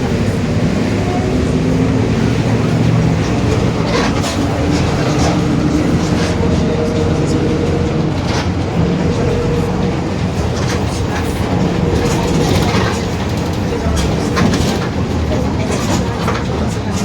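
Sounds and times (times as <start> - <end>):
bus engine drone: 0.0 - 17.0
rattles and clicks: 0.1 - 17.0.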